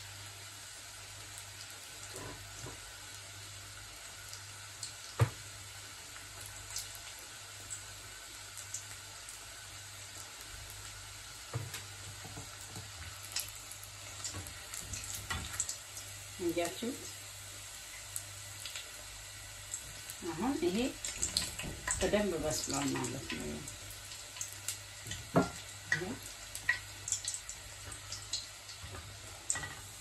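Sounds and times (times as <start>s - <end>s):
deep-frying sizzle: 0.0s - 30.0s.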